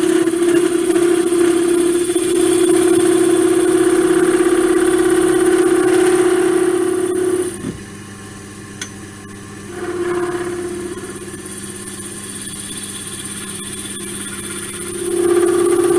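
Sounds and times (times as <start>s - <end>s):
lathe motor hum: 0.0s - 7.7s, 9.5s - 15.9s.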